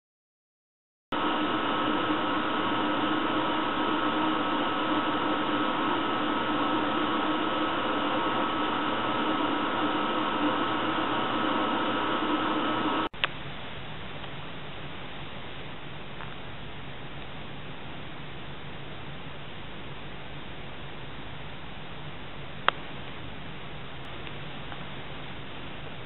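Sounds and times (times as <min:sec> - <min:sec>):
constant high hum: 0:01.1 - 0:26.0
steady hiss: 0:01.2 - 0:26.0.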